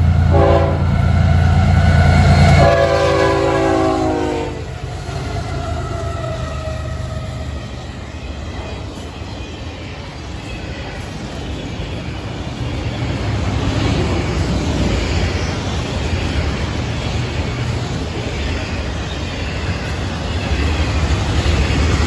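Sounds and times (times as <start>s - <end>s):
train wheels rumbling and rattling: 0.0s - 22.0s.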